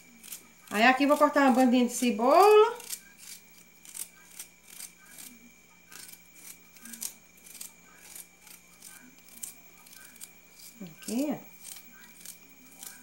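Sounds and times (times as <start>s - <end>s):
knife slicing onion: 0.0s - 13.0s.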